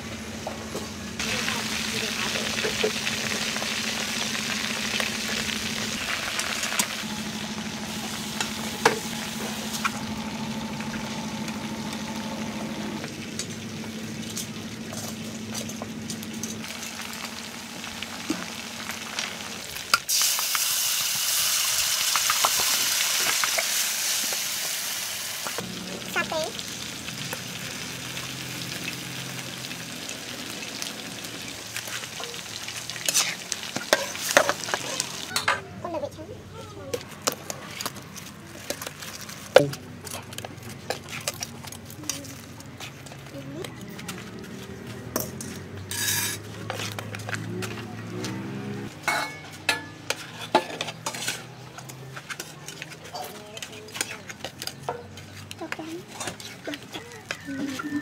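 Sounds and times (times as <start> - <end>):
oil sizzling and bubbling: 0.0 - 35.6, 45.1 - 58.0.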